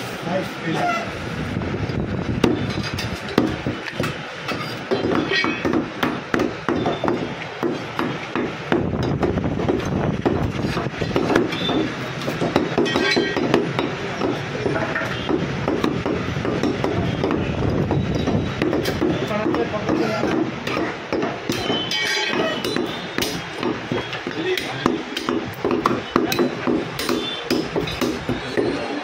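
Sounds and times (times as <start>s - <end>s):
cleaver chopping meat and bone: 2.4s - 28.8s.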